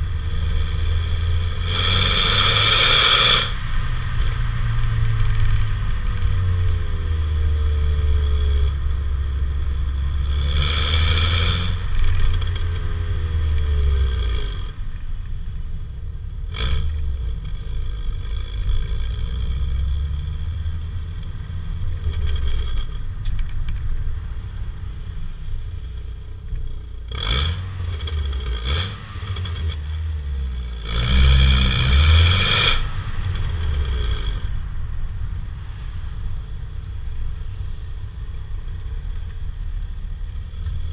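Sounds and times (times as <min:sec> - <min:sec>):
car exhaust drone: 0:00.0 - 0:40.9.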